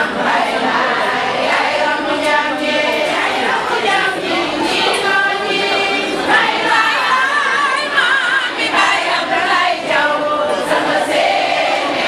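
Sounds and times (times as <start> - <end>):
crowd singing in chorus: 0.0 - 12.0.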